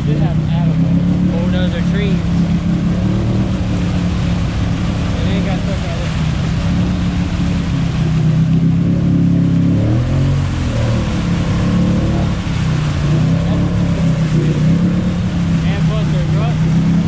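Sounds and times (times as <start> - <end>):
mud and water splashing: 0.0 - 17.0
quad engine running hard: 0.0 - 17.0.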